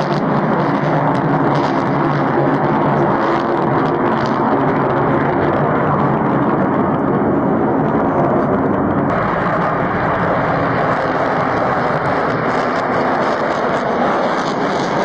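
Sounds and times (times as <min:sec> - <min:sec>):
aircraft engines running: 0:00.0 - 0:15.0.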